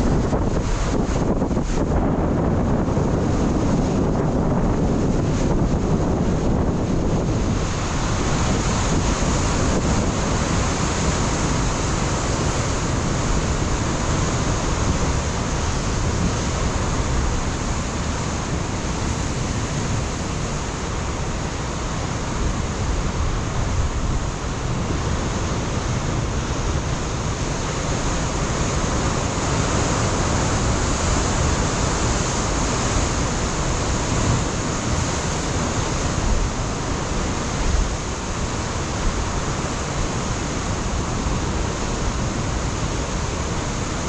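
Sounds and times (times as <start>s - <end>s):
ocean surf on rocky shore: 0.0s - 44.0s
wind buffeting microphone: 0.0s - 44.0s.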